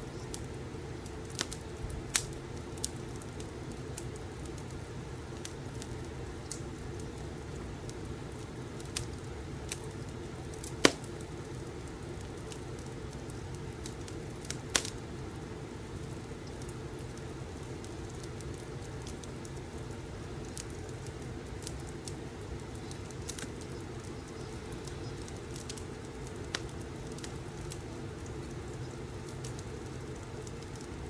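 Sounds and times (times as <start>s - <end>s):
wood fire rumble: 0.0s - 31.0s
fire pops and snaps: 0.1s - 31.0s.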